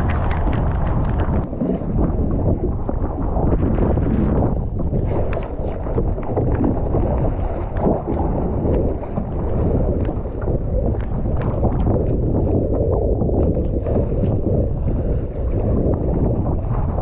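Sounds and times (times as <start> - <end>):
baskets slapping water: 0.0 - 17.0
water splashing at boat's side: 0.0 - 17.0
wind rumbling on microphone: 0.0 - 17.0.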